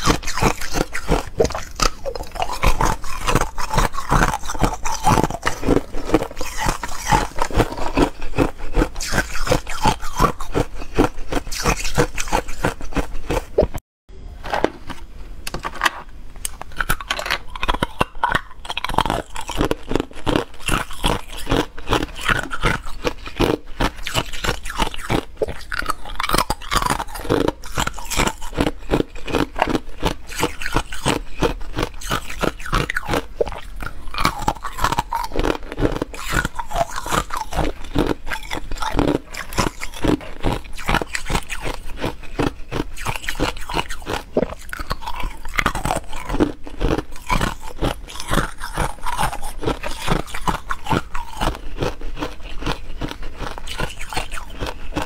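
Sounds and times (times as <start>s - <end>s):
ice cubes crunching: 0.0s - 13.7s, 16.4s - 55.0s.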